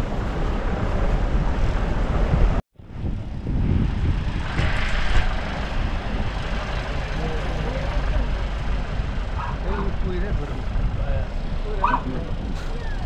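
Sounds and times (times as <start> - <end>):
vehicle rumble: 0.0 - 13.0
wind on microphone: 0.0 - 13.0.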